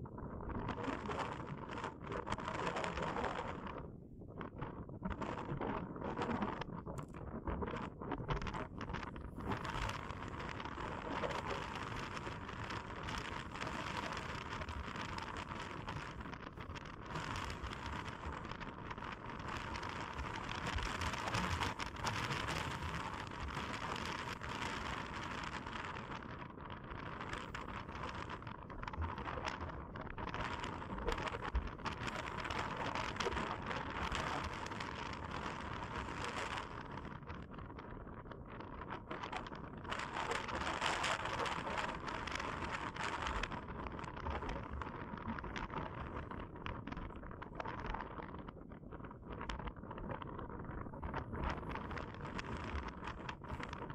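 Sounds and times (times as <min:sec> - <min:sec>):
strong wind gusting over grass: 0:00.0 - 0:53.9
wind buffeting microphone: 0:00.0 - 0:53.9.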